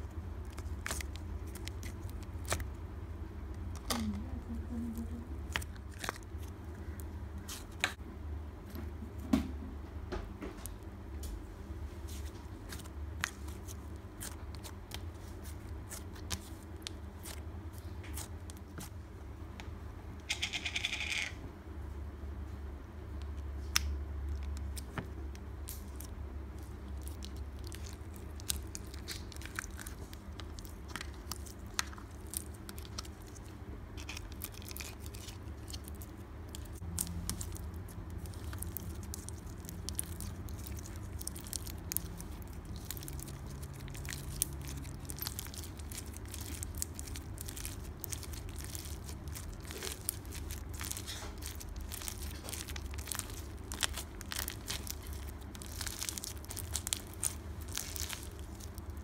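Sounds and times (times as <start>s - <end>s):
slime crackling and popping: 0.0s - 2.8s, 5.4s - 8.0s, 12.7s - 18.9s, 23.2s - 59.0s.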